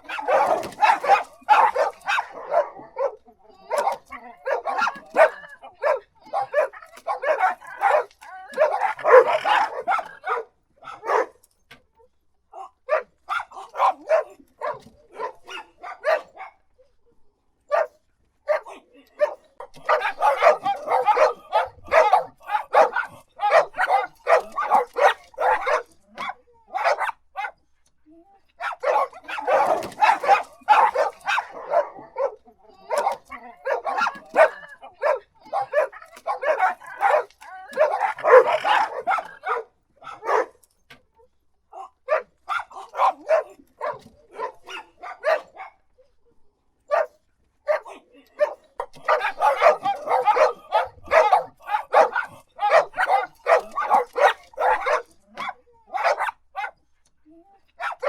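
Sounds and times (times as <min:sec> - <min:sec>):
dogs barking rapidly: 0:00.0 - 0:11.5, 0:12.9 - 0:16.7, 0:17.7 - 0:27.6, 0:28.6 - 0:40.7, 0:42.0 - 0:45.9, 0:46.9 - 0:56.8, 0:57.8 - 0:58.0.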